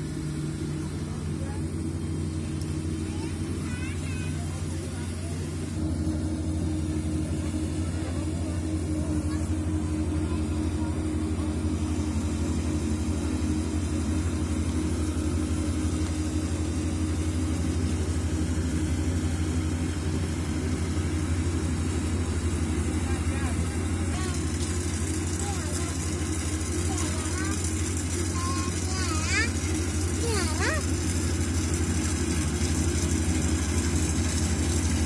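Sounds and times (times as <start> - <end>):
combine harvester diesel engine drone: 0.0 - 35.0.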